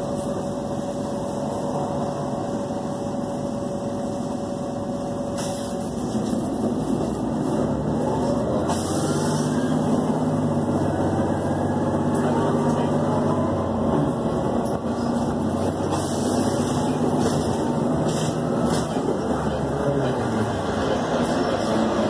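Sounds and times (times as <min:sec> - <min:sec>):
bus engine hum: 0:00.0 - 0:22.0
road noise rumble: 0:00.0 - 0:22.0.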